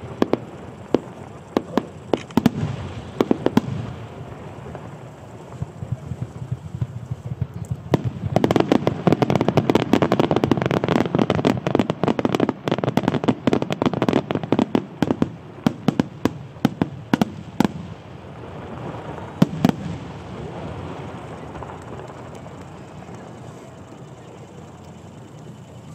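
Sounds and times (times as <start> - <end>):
sharp firework bangs: 0.0 - 23.5
firework bursts and crackles: 0.0 - 25.9.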